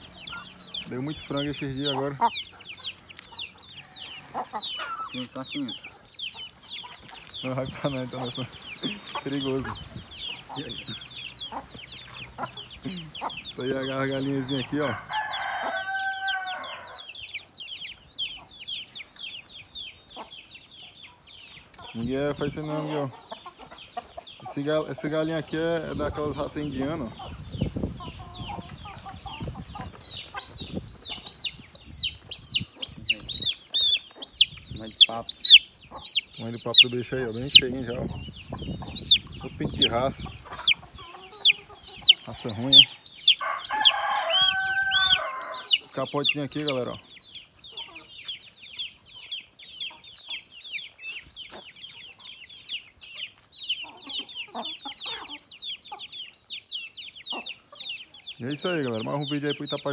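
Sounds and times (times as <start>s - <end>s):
chick peeping loudly: 0.0s - 59.9s
chickens chirping and clucking: 0.0s - 59.9s.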